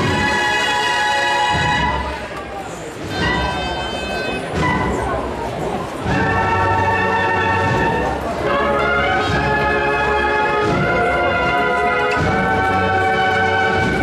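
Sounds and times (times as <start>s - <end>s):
cornet and drum band march: 0.0s - 14.0s.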